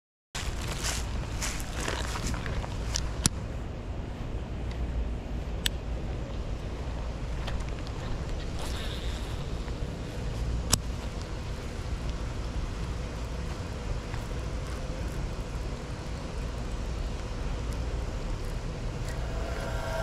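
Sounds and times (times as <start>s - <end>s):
low outdoor rumble: 0.4s - 20.0s.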